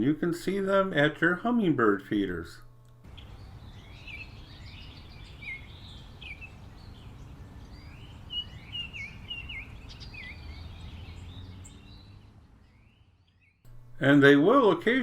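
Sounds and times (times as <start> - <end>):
low outdoor rumble: 0.0 - 15.0
songbirds chirping: 0.0 - 15.0.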